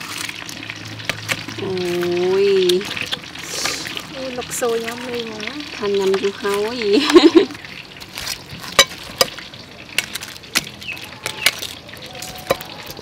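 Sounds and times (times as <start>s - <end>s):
faint sizzle of fried food: 0.0s - 13.0s.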